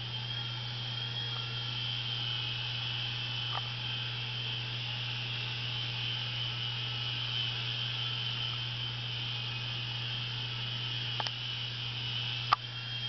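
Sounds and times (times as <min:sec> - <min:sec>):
toy helicopter hovering: 0:00.0 - 0:13.0.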